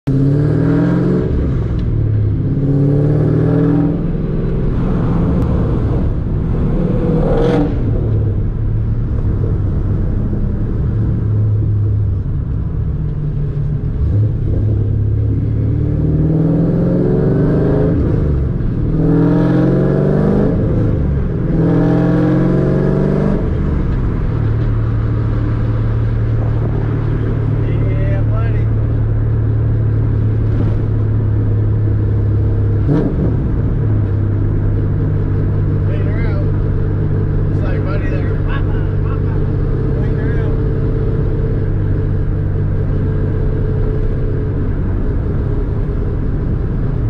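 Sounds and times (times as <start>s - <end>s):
car engine accelerating through gears: 0.1s - 47.0s.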